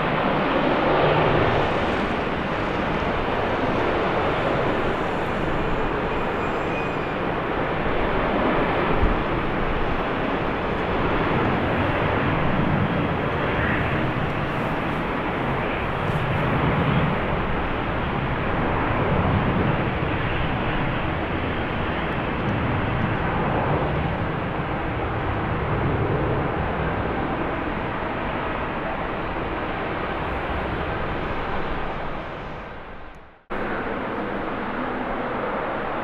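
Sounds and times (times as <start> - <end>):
jet engine rush: 0.0 - 36.0
wind rumbling on microphone: 0.0 - 36.0.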